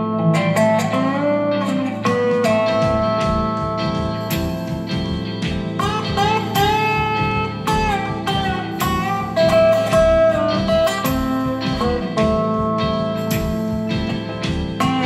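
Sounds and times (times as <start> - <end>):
bass: 0.0 - 15.0
lead guitar melody: 0.0 - 15.0
steady drum beat: 2.0 - 15.0.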